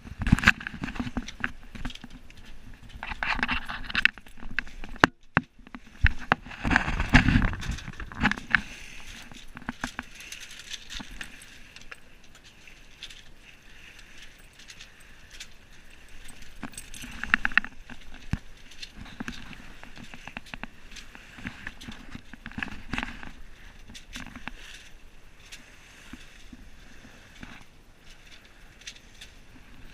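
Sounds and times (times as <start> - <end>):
sailboat gear clicking and rattling: 0.0 - 29.9.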